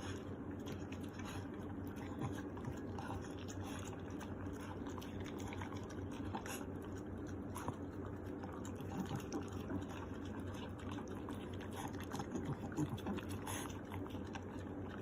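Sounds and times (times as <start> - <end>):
dog licking and chewing: 0.0 - 15.0.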